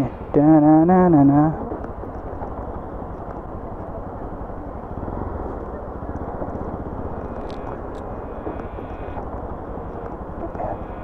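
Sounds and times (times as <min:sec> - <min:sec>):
motorbike engine rumbling: 0:00.0 - 0:11.0
road and wind noise: 0:00.0 - 0:11.0.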